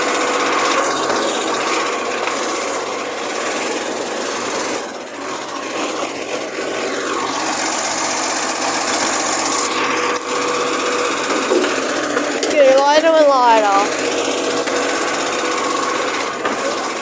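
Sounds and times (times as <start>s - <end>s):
garbage truck engine and hydraulics: 0.0s - 17.0s.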